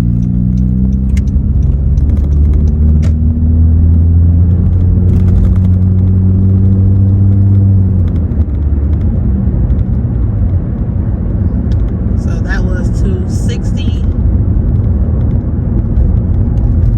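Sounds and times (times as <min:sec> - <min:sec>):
car exhaust drone in cabin: 0:00.0 - 0:16.9
rough engine rumble: 0:00.0 - 0:16.9.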